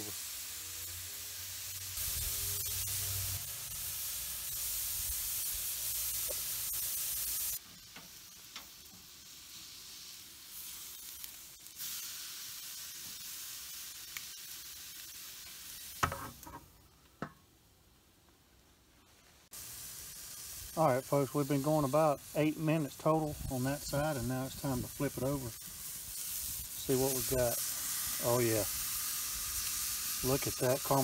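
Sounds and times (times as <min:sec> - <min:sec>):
steak sizzling on grill: 0:00.0 - 0:16.6, 0:19.2 - 0:31.0.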